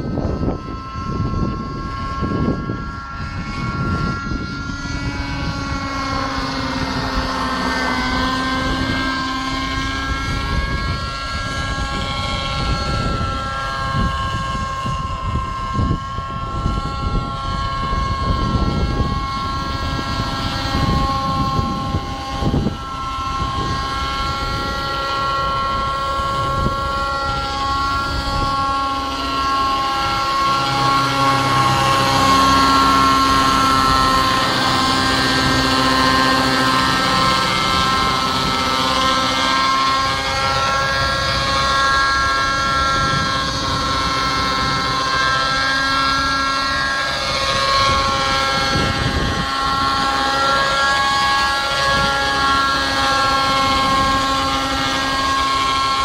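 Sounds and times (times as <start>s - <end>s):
model helicopter engine and rotor whine: 0.0s - 56.0s
wind buffeting microphone: 0.0s - 56.0s.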